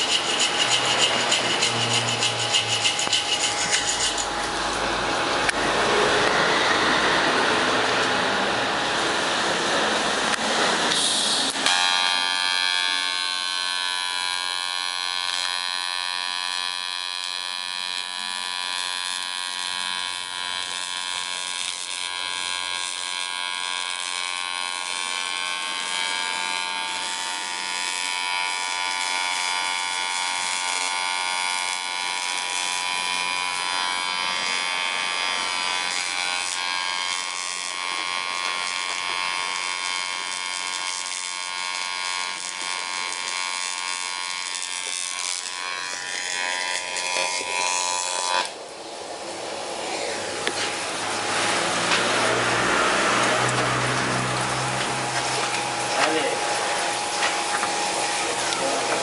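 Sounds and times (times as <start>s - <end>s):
small electric motor whining: 0.0s - 59.0s.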